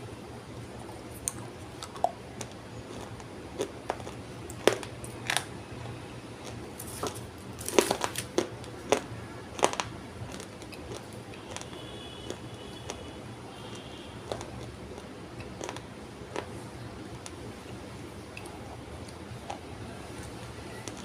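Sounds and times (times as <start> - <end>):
chewing dry clay crunches: 0.7 - 21.0.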